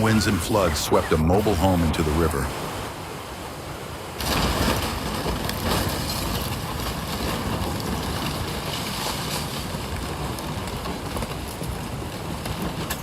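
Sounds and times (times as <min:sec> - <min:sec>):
rushing floodwater: 0:00.0 - 0:13.0
strong wind: 0:00.0 - 0:13.0
wind buffeting microphone: 0:00.0 - 0:13.0.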